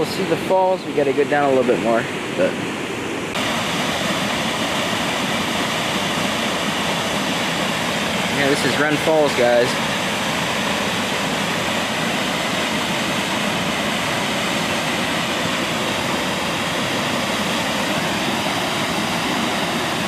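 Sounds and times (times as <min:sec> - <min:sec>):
waterfall and river rapids rushing: 0:00.0 - 0:20.0.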